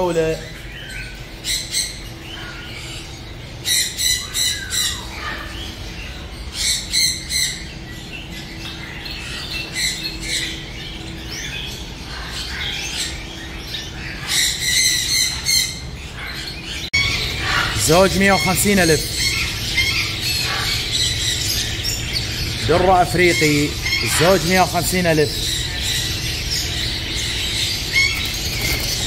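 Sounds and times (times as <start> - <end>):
birds chirping and twittering: 0.0 - 29.0
birds squawking harshly: 0.0 - 29.0.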